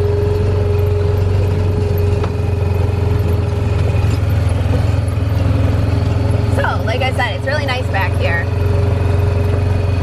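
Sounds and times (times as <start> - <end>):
steady whine: 0.0 - 10.0
utv engine running: 0.0 - 10.0.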